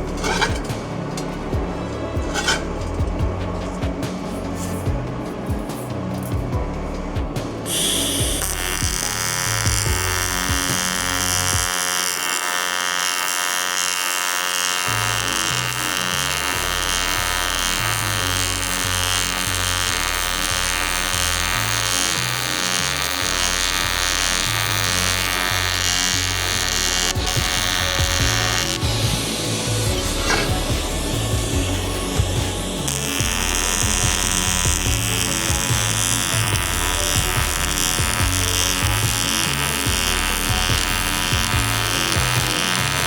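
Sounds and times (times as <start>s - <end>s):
background music with bass: 0.0s - 12.7s, 14.4s - 43.0s
high buzzing drone: 0.0s - 43.0s.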